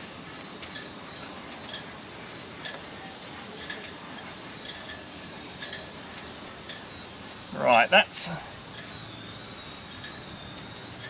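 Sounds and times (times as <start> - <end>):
faint high steady tone: 0.8 - 11.0.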